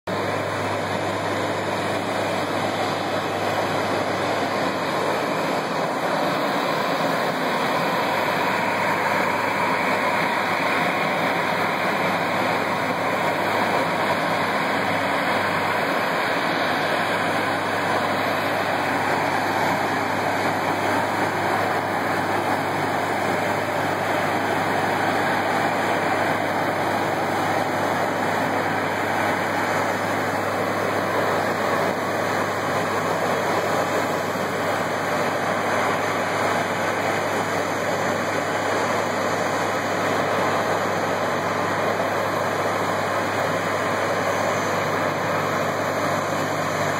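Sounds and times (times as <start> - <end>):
fire truck pumps: 0.1 - 46.9
jet engines running: 0.1 - 46.9
water jets spraying: 0.1 - 46.9.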